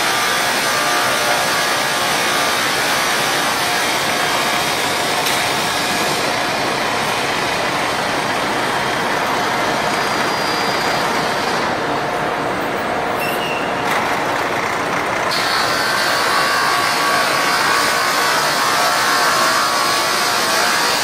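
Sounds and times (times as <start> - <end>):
roller conveyor running: 0.0 - 21.0.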